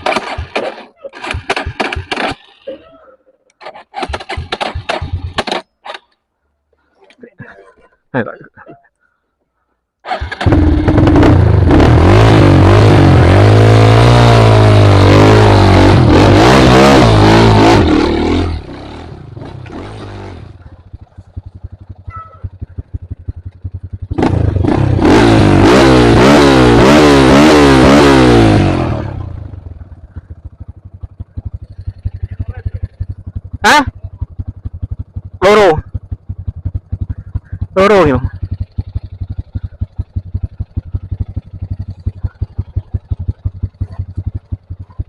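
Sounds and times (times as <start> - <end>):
motorcycle engine revving: 0.0 - 6.2, 10.0 - 45.0.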